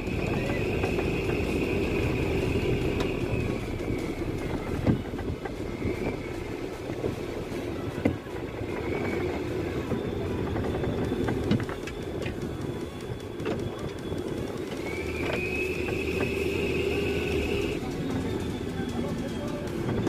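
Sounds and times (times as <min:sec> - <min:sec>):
thin high whine: 0:00.0 - 0:19.7
boat engine rumbling: 0:00.0 - 0:20.0.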